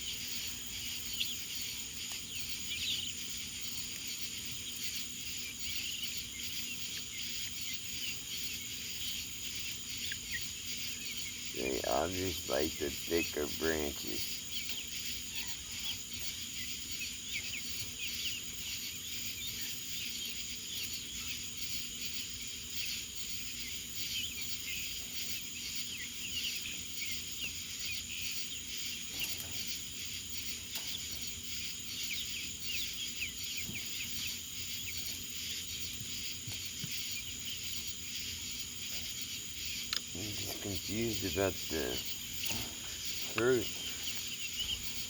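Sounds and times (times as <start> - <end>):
high-pitched insect drone: 0.0 - 45.0
small birds chirping: 0.0 - 45.0.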